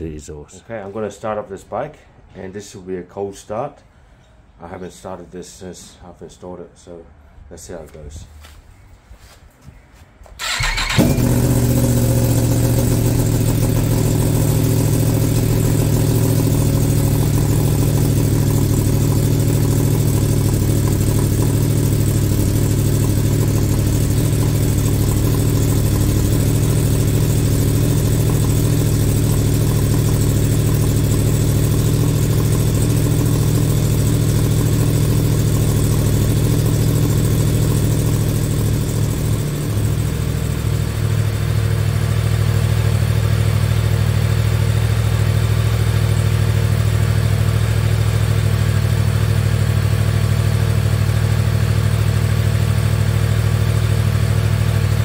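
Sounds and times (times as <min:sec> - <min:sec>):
motorcycle engine idling: 0:10.4 - 0:55.0
motorcycle engine starting: 0:10.4 - 0:55.0.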